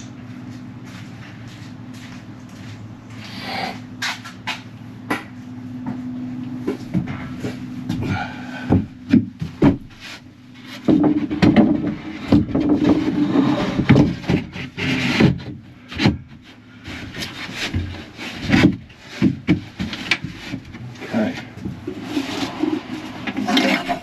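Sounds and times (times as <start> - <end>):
wood knocking and scraping: 4.0 - 24.0.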